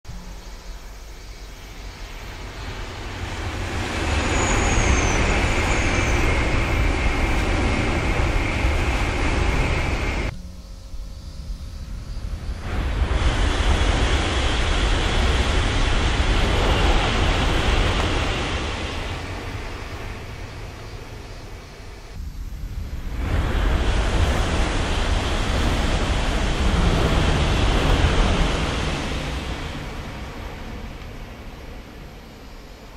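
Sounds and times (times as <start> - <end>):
high-speed train rushing past: 0.2 - 10.4, 12.1 - 32.9.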